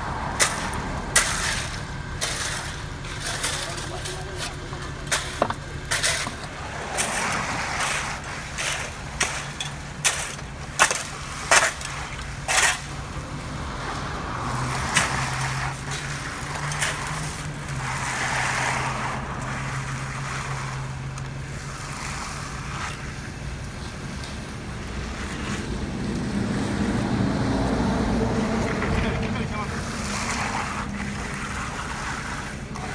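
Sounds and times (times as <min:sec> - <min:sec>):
truck engine humming: 0:00.0 - 0:32.9
shovels scraping concrete: 0:00.2 - 0:26.6, 0:28.4 - 0:32.9.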